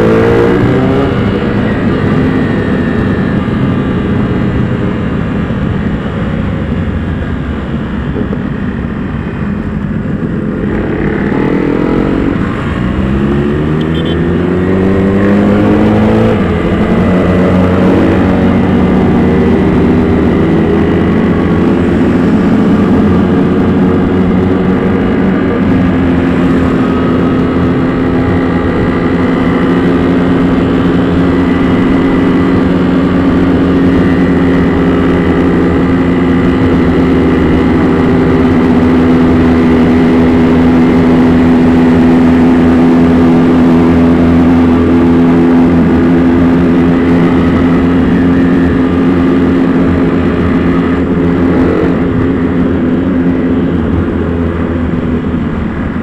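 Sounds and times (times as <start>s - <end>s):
motorcycle engine revving: 0.0s - 7.3s, 8.1s - 56.0s.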